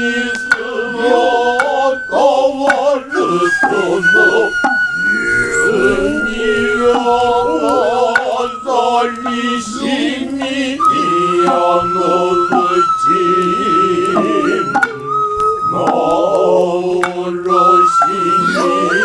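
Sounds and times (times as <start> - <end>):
bamboo flute high note: 0.0 - 19.0
men chanting: 0.0 - 19.0.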